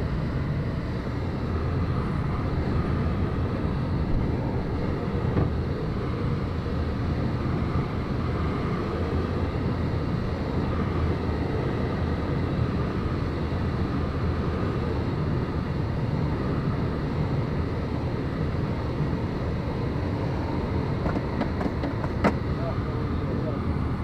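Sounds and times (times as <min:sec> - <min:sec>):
airflow rushing around glider: 0:00.0 - 0:24.0.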